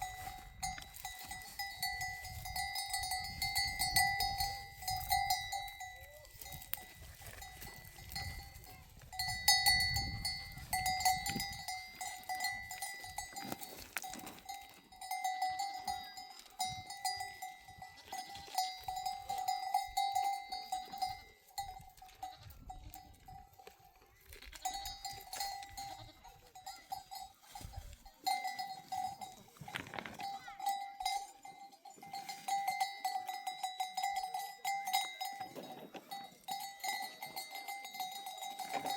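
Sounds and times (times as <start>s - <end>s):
metal bells clanking: 0.0s - 23.9s, 24.6s - 38.9s.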